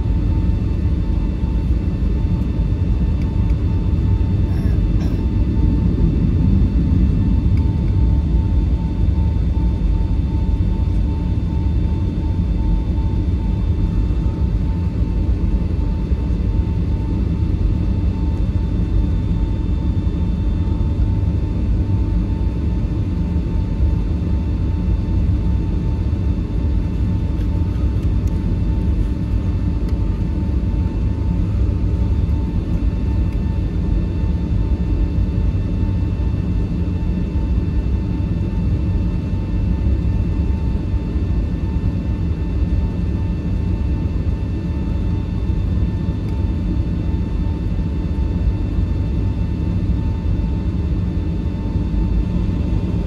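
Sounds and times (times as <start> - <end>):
aircraft cabin rumble: 0.0 - 53.0
jet engines whining at idle: 0.0 - 53.0.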